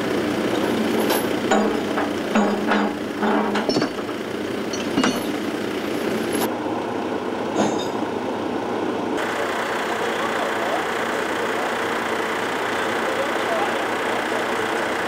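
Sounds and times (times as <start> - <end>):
heavy diesel engines running: 0.0 - 15.0.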